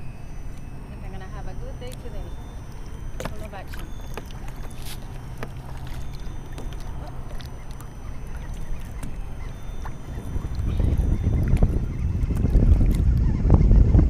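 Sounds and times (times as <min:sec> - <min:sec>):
water lapping against plastic hull: 0:00.0 - 0:13.4
wind rumbling on microphone: 0:00.0 - 0:14.0.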